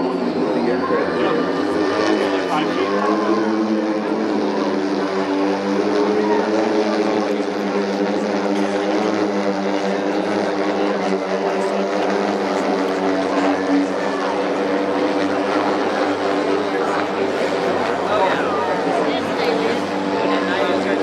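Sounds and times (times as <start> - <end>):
electric aircraft propellers humming: 0.0 - 21.0.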